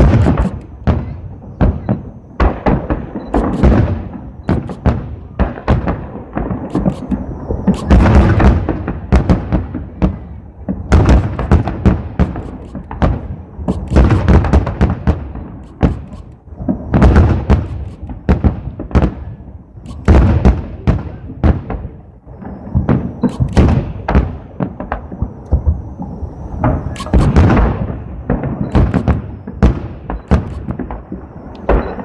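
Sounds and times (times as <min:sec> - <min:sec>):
firework launch thumps: 0:00.0 - 0:09.4, 0:10.7 - 0:19.1, 0:22.8 - 0:32.0
fireworks booming: 0:00.0 - 0:32.0.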